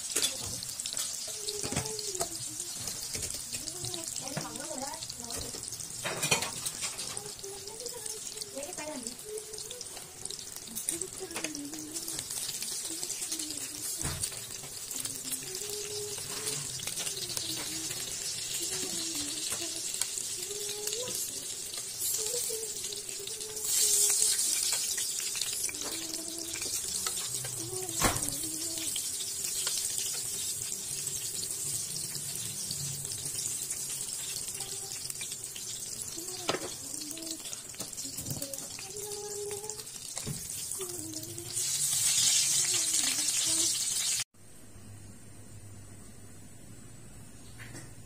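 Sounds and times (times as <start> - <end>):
spring rolls sizzling in hot oil: 0.0 - 44.3.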